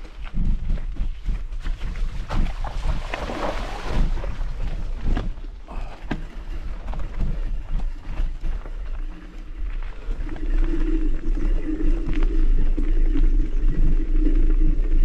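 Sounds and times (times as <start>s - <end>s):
low hum: 0.0s - 15.0s
wind rumble on microphone: 0.0s - 15.0s.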